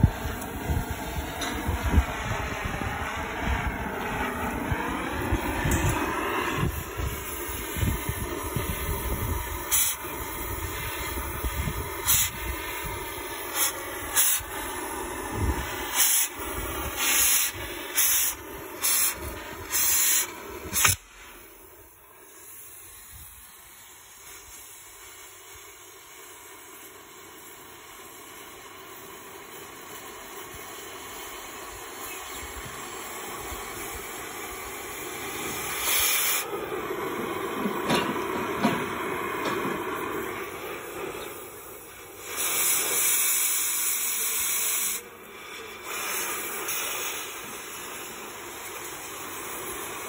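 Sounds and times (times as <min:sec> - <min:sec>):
cutting torch hissing: 0:00.0 - 0:50.0.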